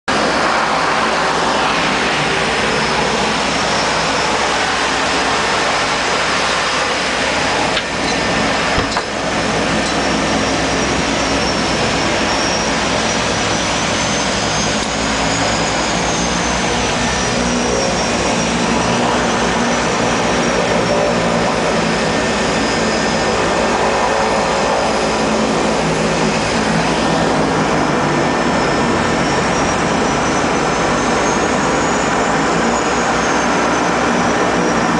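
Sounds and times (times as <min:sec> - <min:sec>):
high wavering whine: 0:00.1 - 0:34.9
seaplane engines running: 0:00.1 - 0:34.9.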